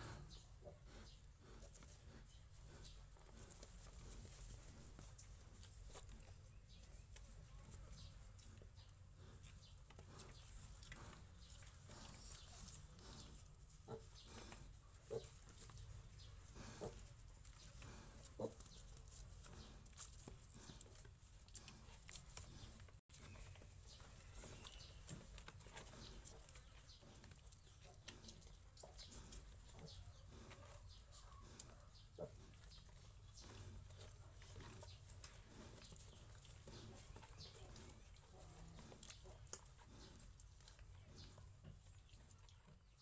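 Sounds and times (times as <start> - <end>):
low farm animal calls: 0.0 - 43.0.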